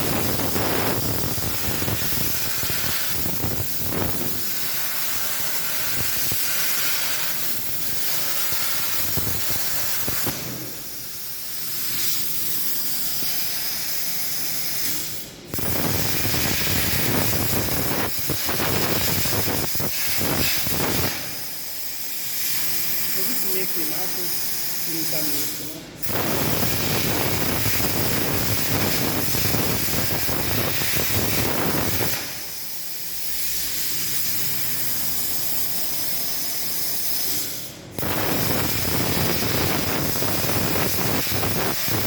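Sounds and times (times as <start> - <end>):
plasma cutter torch hissing: 0.0 - 42.0.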